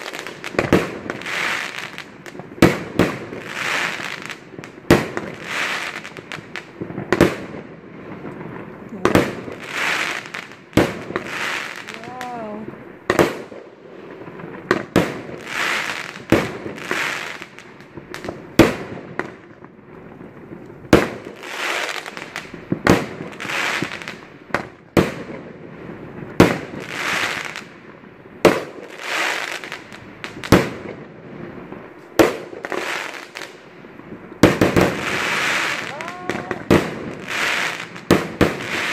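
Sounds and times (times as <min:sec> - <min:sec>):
fireworks bangs: 0:00.0 - 0:38.9
fireworks hissing crackle: 0:00.0 - 0:38.9.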